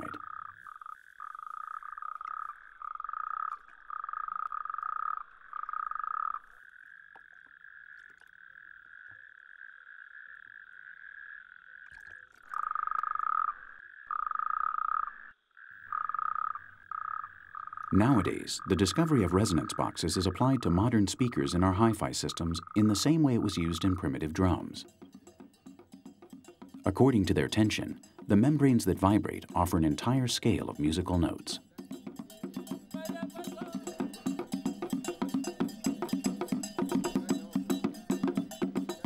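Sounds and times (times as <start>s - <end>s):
nearby toad calling: 0.0s - 39.0s
toad chorus: 0.0s - 39.0s.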